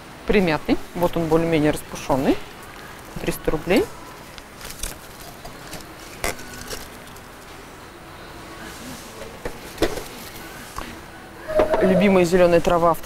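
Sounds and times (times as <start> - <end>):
shop hall background noise: 0.0 - 13.0.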